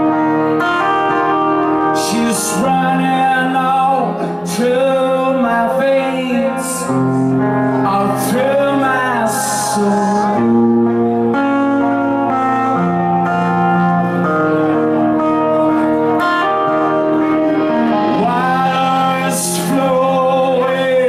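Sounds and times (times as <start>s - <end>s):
man singing lead: 0.0s - 11.4s, 15.4s - 21.0s
electric guitars: 0.0s - 21.0s.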